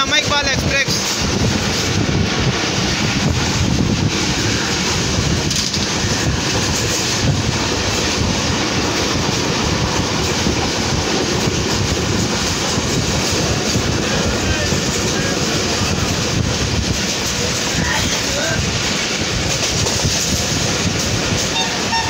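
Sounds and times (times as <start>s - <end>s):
train rumbling along track: 0.0s - 22.0s
wheels rattling over rails: 0.0s - 22.0s.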